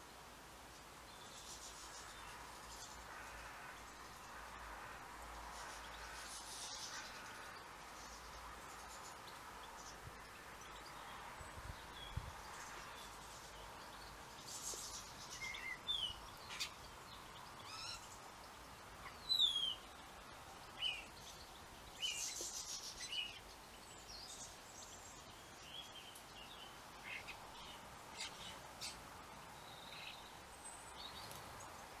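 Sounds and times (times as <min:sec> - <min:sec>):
faint outdoor background noise: 0:00.0 - 0:32.0
birds chirping and twittering: 0:00.6 - 0:32.0.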